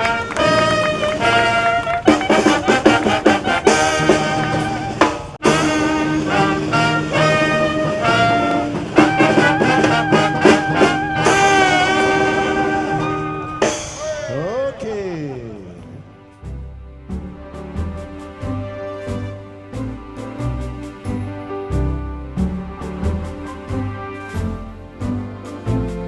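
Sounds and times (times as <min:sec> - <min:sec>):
brass instruments holding notes: 0:00.0 - 0:26.0
drums keeping a beat: 0:00.0 - 0:26.0.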